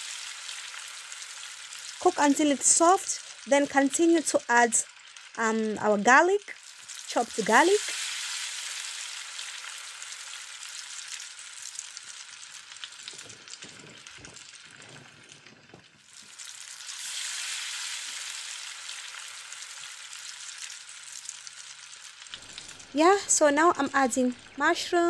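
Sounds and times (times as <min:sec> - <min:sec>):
onion and garlic frying: 0:00.0 - 0:25.0.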